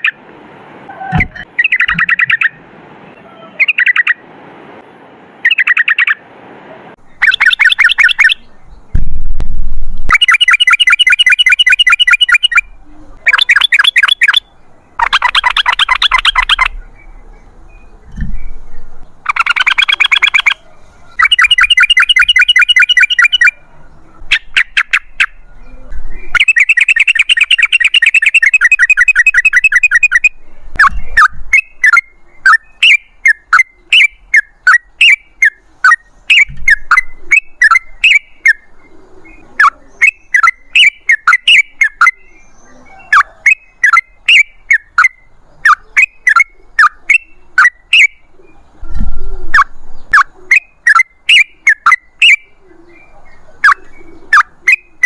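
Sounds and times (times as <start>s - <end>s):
bird bubbling chirps: 1.5s - 2.6s, 7.1s - 9.0s, 10.1s - 55.0s
bird rolling trills: 7.1s - 8.9s, 10.0s - 55.0s.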